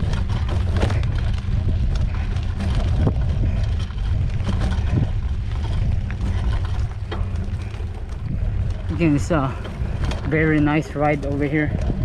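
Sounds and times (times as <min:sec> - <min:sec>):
bike clicks on trail: 0:00.0 - 0:12.0
wind buffeting microphone: 0:00.0 - 0:12.0.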